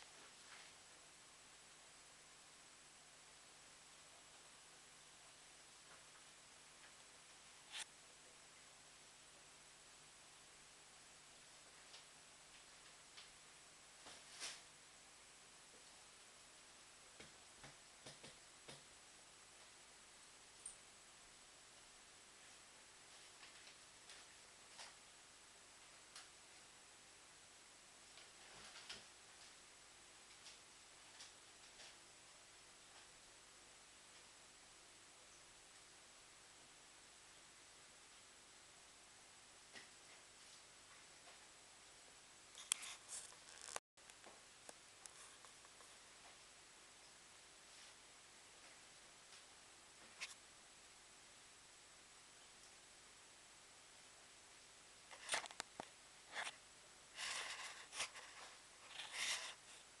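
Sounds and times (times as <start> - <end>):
faint room tone hiss: 0.0 - 60.0.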